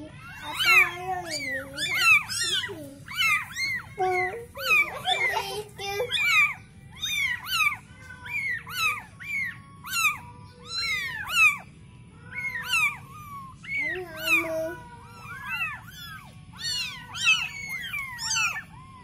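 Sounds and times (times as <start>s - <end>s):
kittens mewing: 0.0s - 19.0s.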